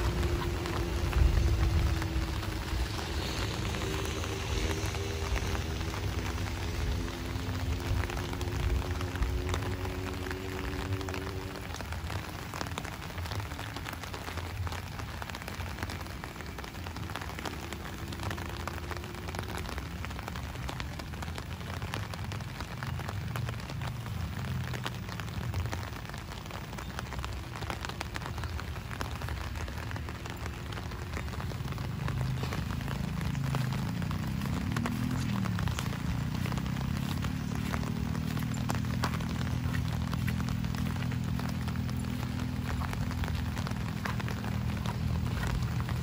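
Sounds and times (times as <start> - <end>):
raindrops ticking close: 0.0 - 46.0
steady rain falling: 0.0 - 46.0.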